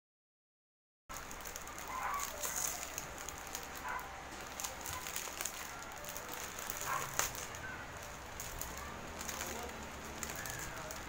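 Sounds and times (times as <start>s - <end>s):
plastic bag crinkling: 1.1s - 11.0s.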